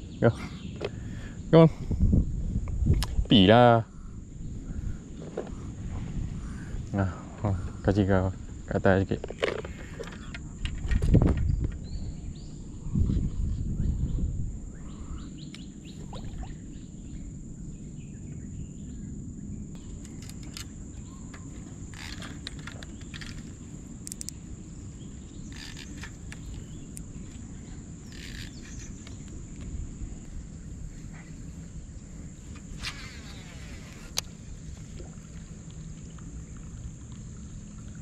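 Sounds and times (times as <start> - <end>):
high insect drone: 0.0 - 38.0
wind rumble on microphone: 0.0 - 38.0.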